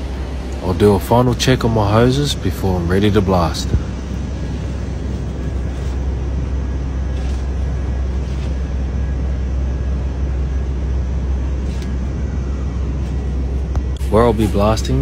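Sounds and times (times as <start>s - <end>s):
machinery drone: 0.0s - 15.0s.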